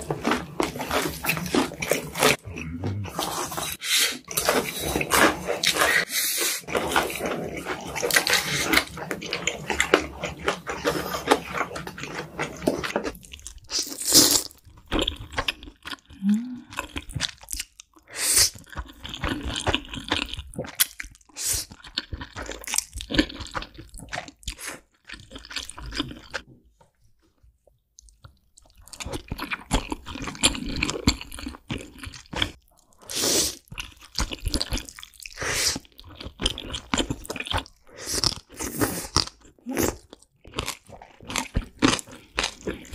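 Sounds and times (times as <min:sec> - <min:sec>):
noodles slurped and chewed: 0:00.0 - 0:26.5, 0:28.0 - 0:42.9.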